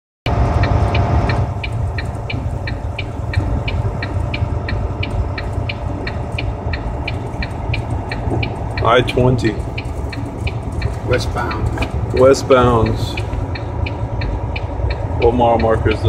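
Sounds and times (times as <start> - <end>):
even ticking: 0.3 - 16.0
road and engine rumble: 0.3 - 16.0.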